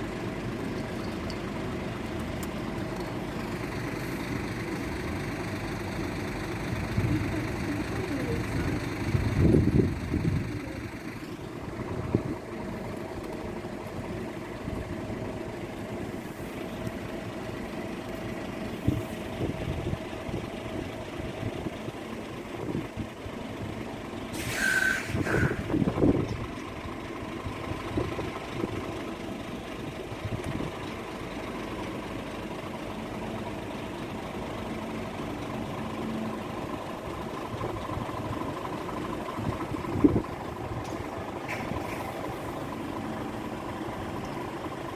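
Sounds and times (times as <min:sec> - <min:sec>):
vehicle engines idling: 0:00.0 - 0:44.9.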